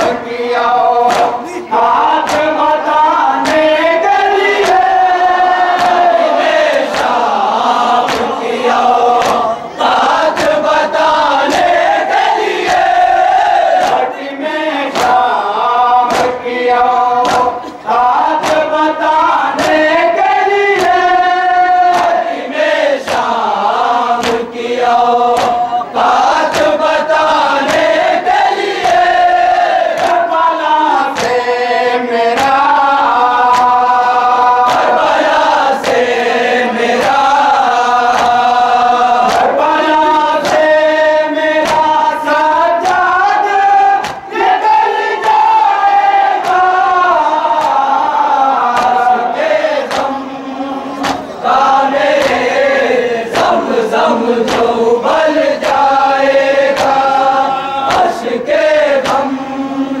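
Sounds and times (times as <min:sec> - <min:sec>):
men chanting in chorus: 0:00.0 - 1:00.0
chest-beating slaps: 0:00.9 - 0:14.2, 0:14.8 - 0:31.6, 0:32.3 - 0:50.2, 0:50.8 - 0:59.4.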